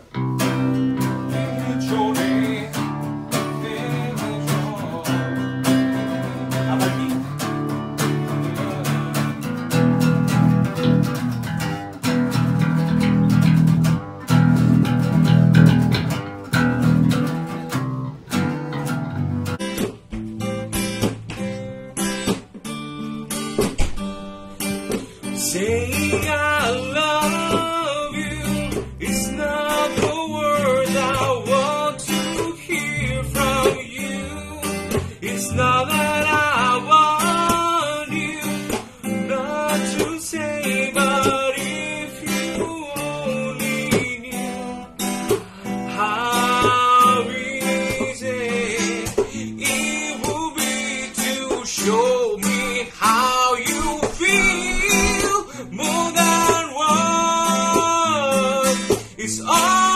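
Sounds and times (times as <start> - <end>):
man singing: 0.0 - 13.8, 24.9 - 59.9
acoustic guitar: 0.0 - 59.9.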